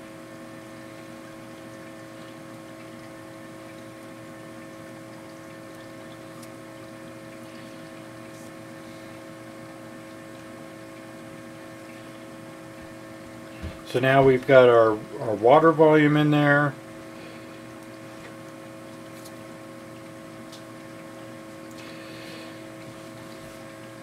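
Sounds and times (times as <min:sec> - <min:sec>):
background hum and hiss: 0:00.0 - 0:24.0.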